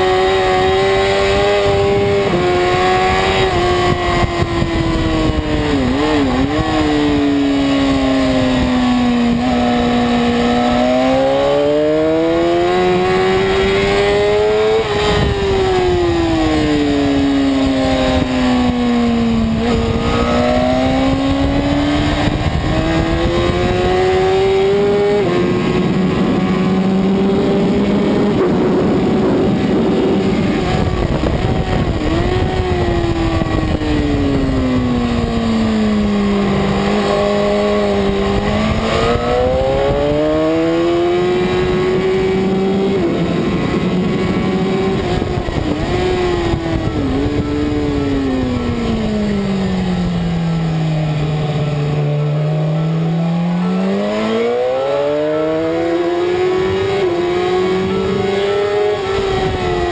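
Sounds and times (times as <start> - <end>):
wind rush: 0.0 - 52.1
motorcycle engine accelerating: 0.0 - 59.9.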